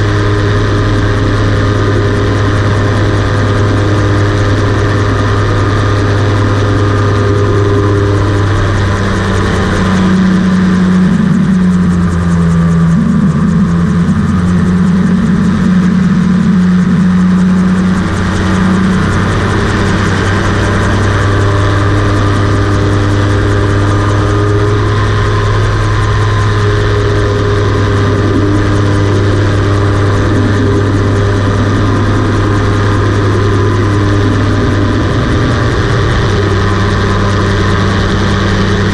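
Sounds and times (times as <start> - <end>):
engine and propeller droning: 0.0 - 38.9
wavering higher tone: 0.0 - 38.9.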